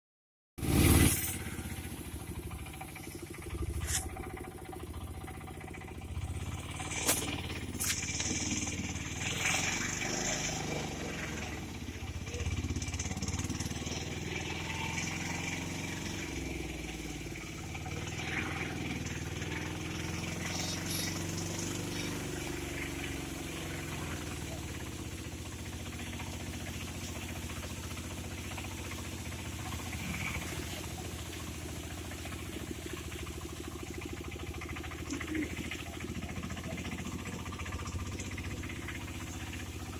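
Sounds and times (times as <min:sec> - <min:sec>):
vehicle engine running: 0:00.6 - 0:39.9.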